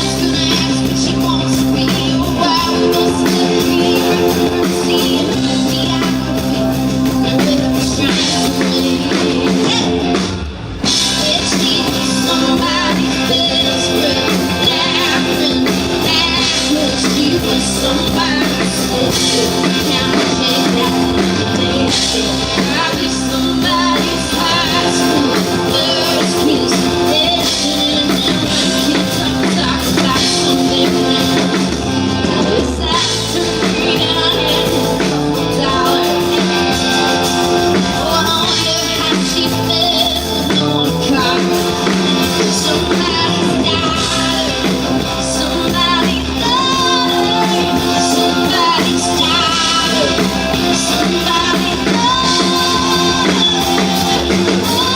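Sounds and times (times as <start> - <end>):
live rock band with singer: 0.0 - 54.9.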